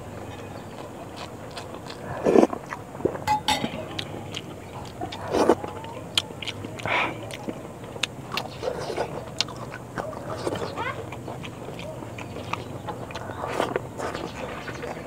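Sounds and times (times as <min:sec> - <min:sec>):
fingers working food: 0:00.0 - 0:15.0
steady low hum: 0:00.0 - 0:15.0.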